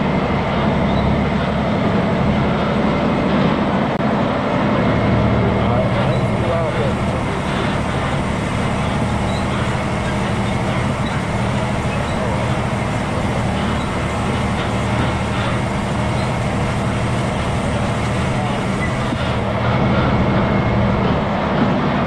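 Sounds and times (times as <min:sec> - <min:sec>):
road and tyre noise: 0:00.0 - 0:22.0
truck diesel engine drone: 0:00.0 - 0:22.0.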